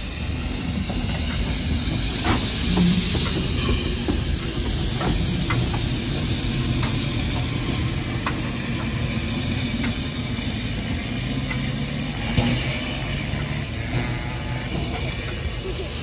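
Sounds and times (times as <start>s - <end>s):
steam engine hissing: 0.0s - 16.0s.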